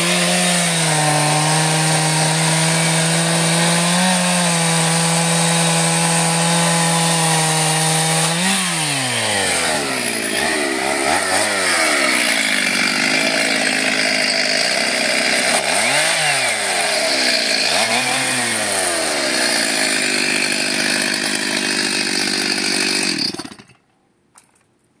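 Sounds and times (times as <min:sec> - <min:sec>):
chainsaw cutting logs: 0:00.0 - 0:23.9.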